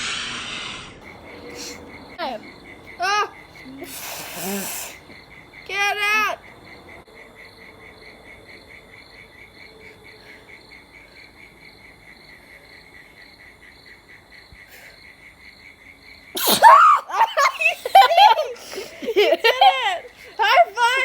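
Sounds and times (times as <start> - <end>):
crickets chirping: 1.0 - 21.0.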